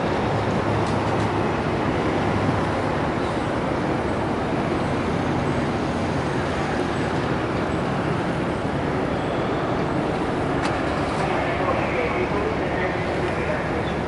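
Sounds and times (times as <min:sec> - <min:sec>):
constant noisy hiss: 0:00.0 - 0:14.0
ship diesel engines rumbling: 0:00.0 - 0:14.0.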